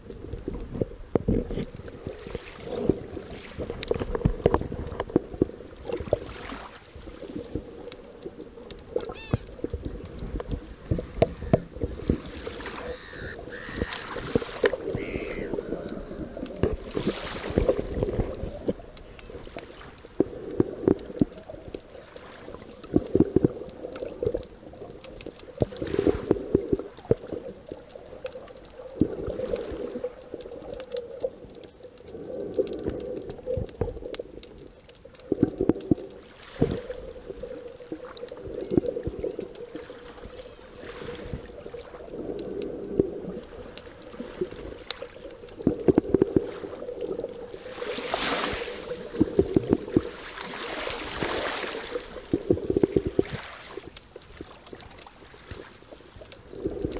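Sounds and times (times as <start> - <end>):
small clicks and crackles: 0.0 - 56.9
water surging underwater: 0.0 - 56.9.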